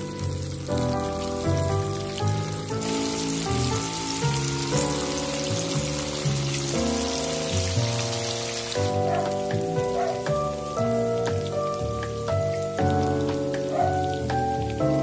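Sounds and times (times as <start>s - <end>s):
background music: 0.0s - 15.0s
tofu sizzling in hot oil: 0.0s - 15.0s.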